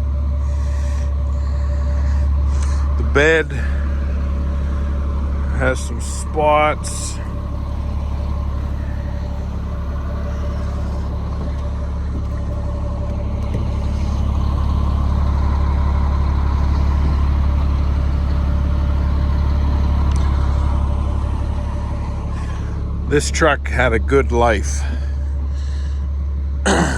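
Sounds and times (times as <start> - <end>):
diesel truck engine idling: 0.0 - 26.9.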